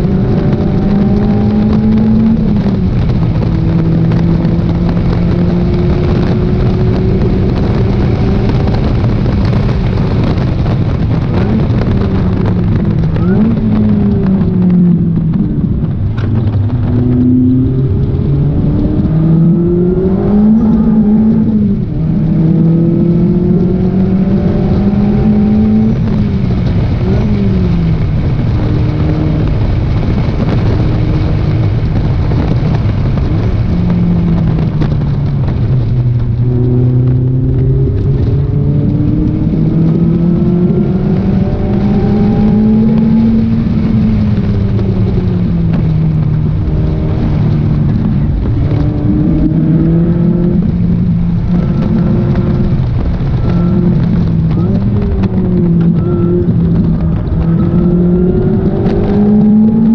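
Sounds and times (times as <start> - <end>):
sports car engine revving: 0.0 - 59.9.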